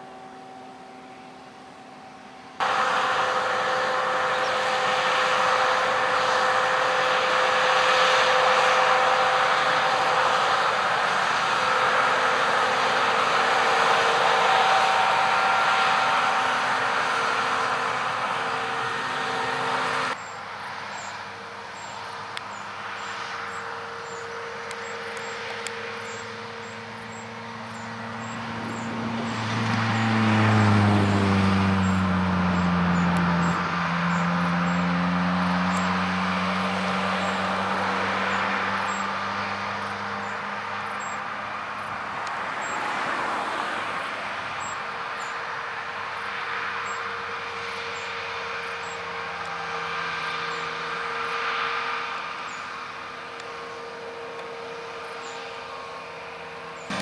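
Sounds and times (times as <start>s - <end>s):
combine engine passing: 0.0s - 57.0s
combine harvester rushing and whining: 0.0s - 57.0s.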